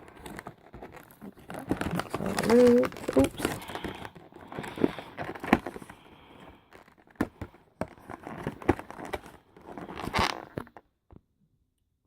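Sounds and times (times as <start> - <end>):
cardboard packaging crinkling: 0.0 - 10.8.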